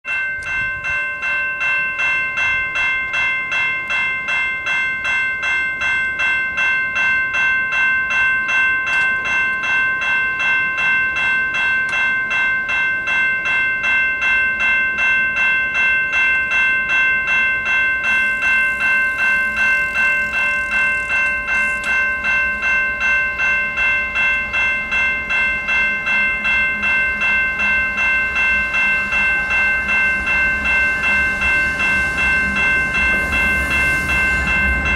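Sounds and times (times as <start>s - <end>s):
level crossing warning bell ringing: 0.0s - 34.9s.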